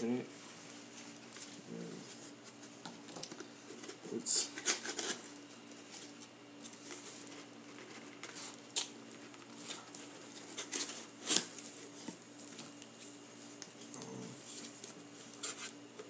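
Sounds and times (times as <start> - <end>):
faint steady hum: 0.0 - 16.0
cardboard and packing rustling: 0.4 - 15.9.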